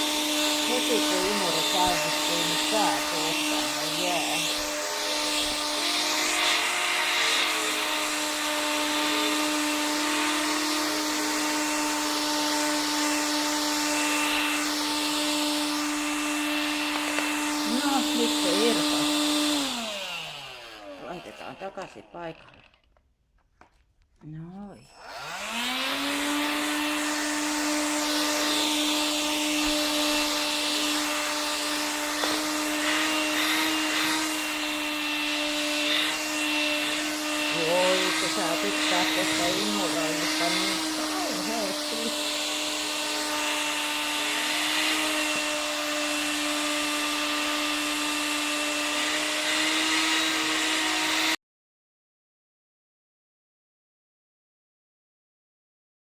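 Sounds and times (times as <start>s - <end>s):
vacuum cleaner running: 0.0s - 22.8s, 24.5s - 51.4s.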